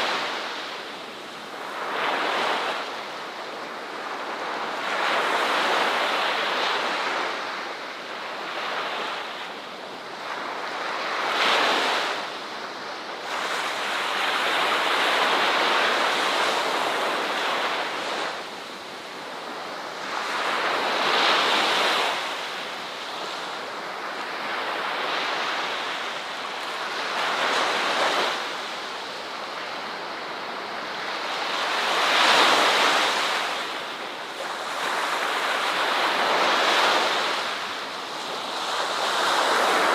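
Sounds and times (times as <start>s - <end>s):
ocean waves breaking on a beach: 0.0s - 39.9s.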